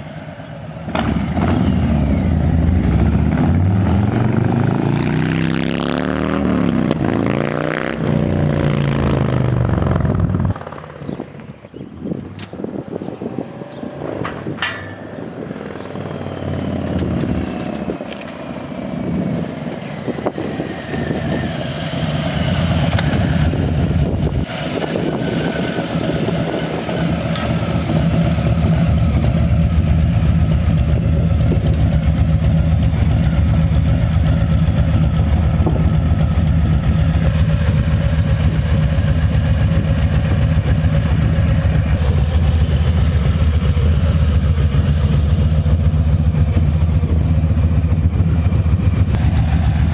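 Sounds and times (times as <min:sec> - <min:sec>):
motorcycle engine deep rumble: 0:00.0 - 0:49.9.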